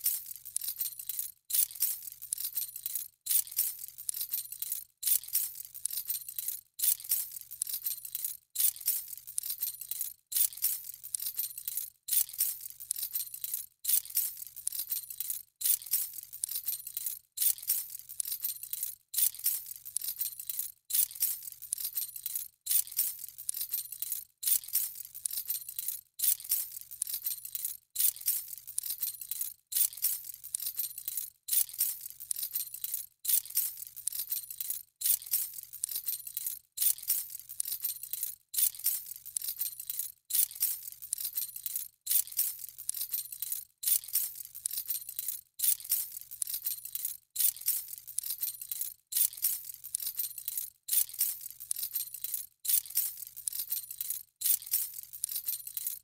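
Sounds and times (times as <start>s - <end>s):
keys jingling: 0.0s - 56.0s.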